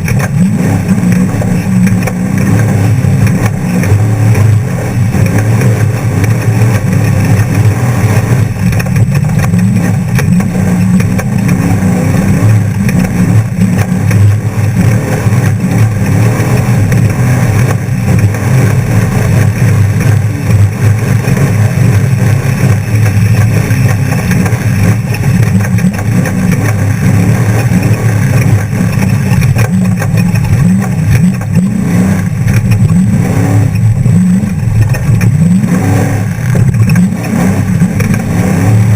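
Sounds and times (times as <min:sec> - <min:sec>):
truck engine running loud: 0:00.0 - 0:38.9.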